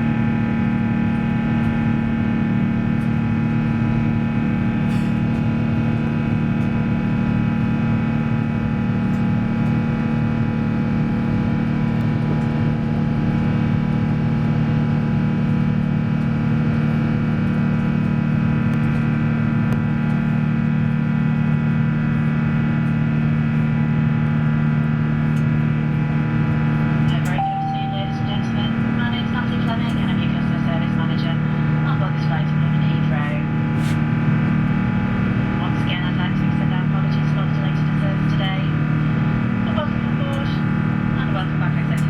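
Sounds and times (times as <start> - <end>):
jet engine drone in cabin: 0.0 - 42.0.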